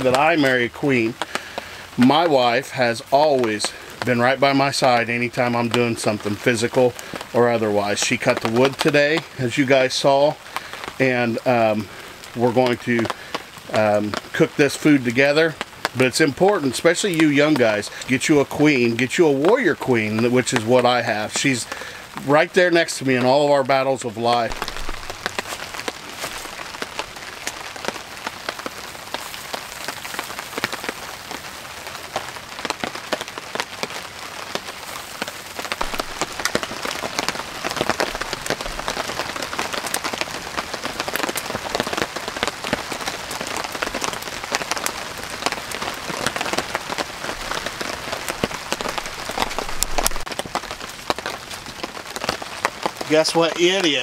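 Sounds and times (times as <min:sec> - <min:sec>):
rain falling on a tarp: 0:00.0 - 0:54.0.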